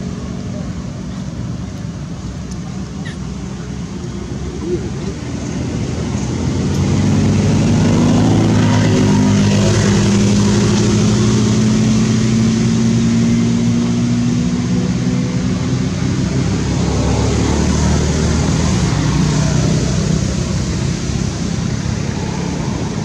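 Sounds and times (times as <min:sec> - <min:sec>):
engine running with steady hum: 0:00.0 - 0:23.0.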